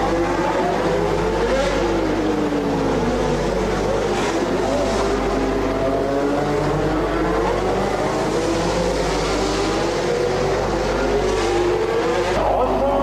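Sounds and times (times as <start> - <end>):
racing car engines running: 0.0 - 13.0.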